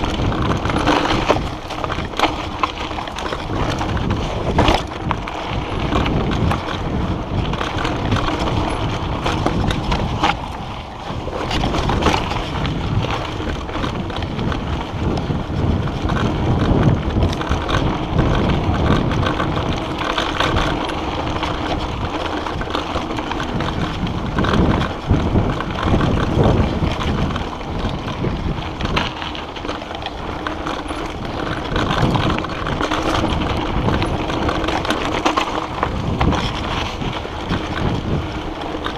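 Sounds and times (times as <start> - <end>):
bike rattles and knocks: 0.0 - 38.9
bike tyres rolling over gravel: 0.0 - 38.9
wind noise on microphone: 0.0 - 38.9.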